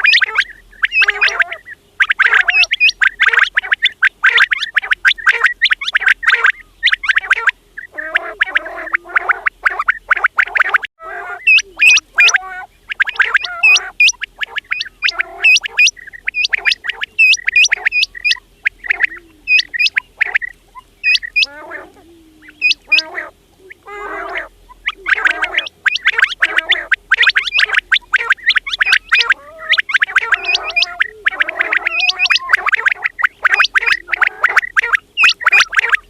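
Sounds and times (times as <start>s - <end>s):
quails calling: 0.0s - 36.0s.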